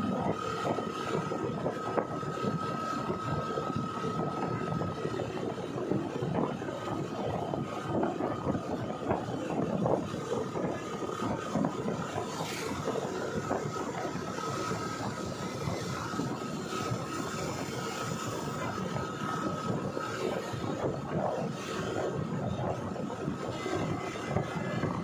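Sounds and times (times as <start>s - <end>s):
motorbike engine and road noise: 0.0s - 25.0s
thin steady whine: 0.0s - 25.0s
wind buffeting microphone: 0.0s - 25.0s.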